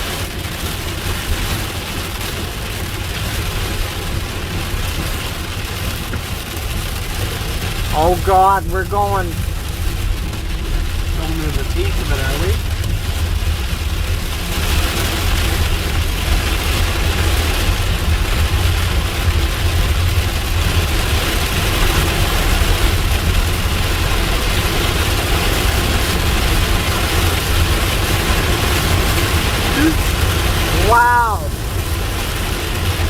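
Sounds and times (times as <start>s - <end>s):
rain hissing on car: 0.0s - 33.0s
road and engine rumble: 0.0s - 33.0s.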